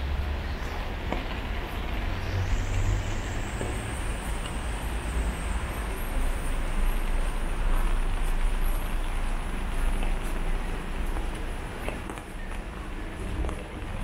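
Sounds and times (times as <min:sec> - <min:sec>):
low rumble of engines: 0:00.0 - 0:14.0
tyre noise on wet road: 0:00.0 - 0:14.0.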